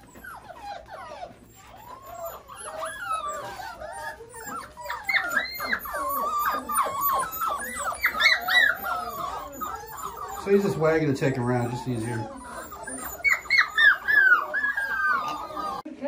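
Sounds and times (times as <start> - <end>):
puppies whining and yipping: 0.0 - 15.9.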